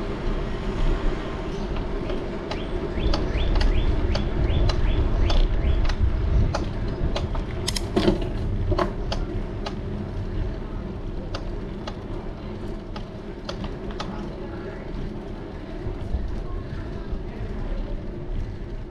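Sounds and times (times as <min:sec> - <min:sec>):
bicycle creaking and clicking: 0:00.0 - 0:18.9
tyres rumbling: 0:00.0 - 0:18.9
wind: 0:00.0 - 0:18.9.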